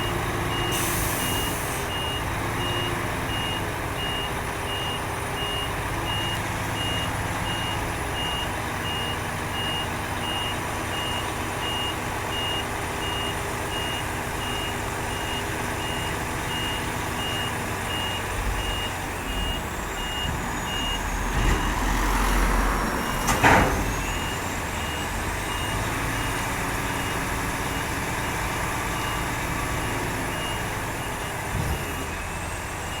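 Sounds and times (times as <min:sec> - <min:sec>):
reversing alarm beeping: 0:00.0 - 0:22.0, 0:23.0 - 0:33.0.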